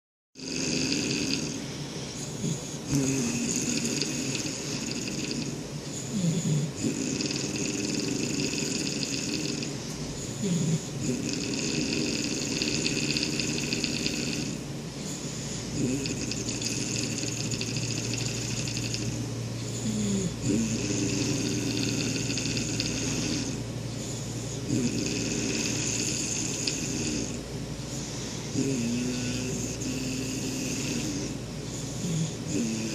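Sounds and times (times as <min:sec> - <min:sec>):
snoring: 0:00.4 - 0:32.9.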